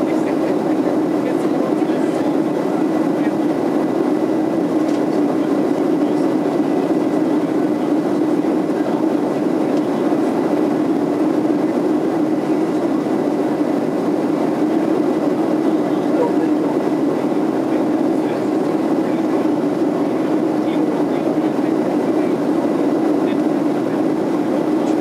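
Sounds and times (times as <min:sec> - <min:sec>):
airplane cabin engine rushing: 0:00.0 - 0:25.0.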